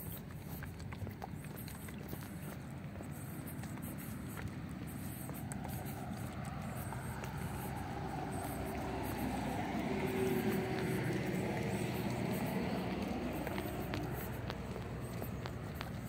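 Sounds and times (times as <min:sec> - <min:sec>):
low traffic rumble: 0:00.0 - 0:16.0
vehicle passing: 0:01.5 - 0:16.0.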